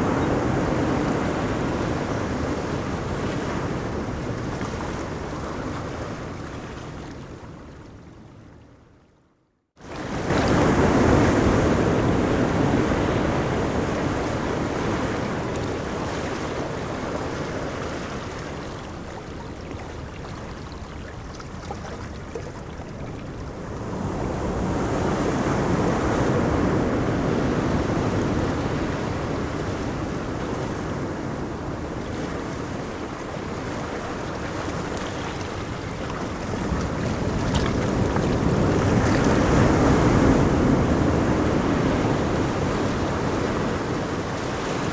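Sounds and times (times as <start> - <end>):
ocean waves washing onto beach: 0.0 - 7.9, 9.8 - 44.9.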